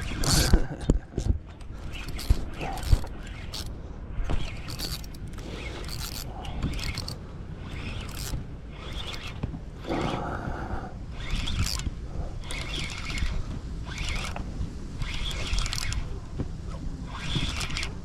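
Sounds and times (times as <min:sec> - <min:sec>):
fishing reel gears whirring: 0:00.0 - 0:10.2, 0:11.1 - 0:18.0.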